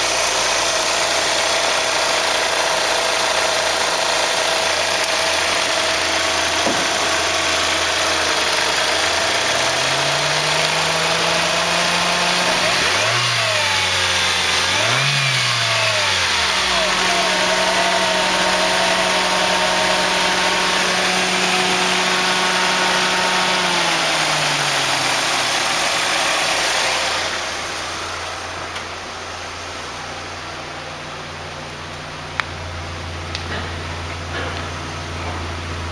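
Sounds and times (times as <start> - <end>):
engine winding down: 0.0 - 31.2
engine idling: 0.0 - 35.9
engine throttle blips: 3.7 - 35.9.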